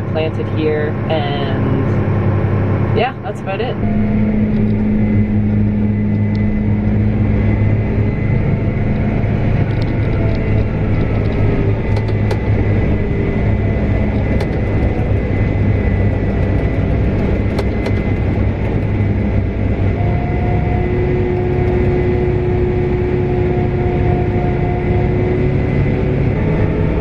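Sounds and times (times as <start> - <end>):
deep engine drone: 0.0 - 27.0
machine whine: 0.0 - 27.0.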